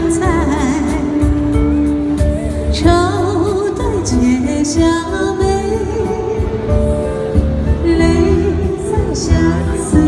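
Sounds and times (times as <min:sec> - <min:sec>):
woman singing into microphone: 0:00.0 - 0:10.0.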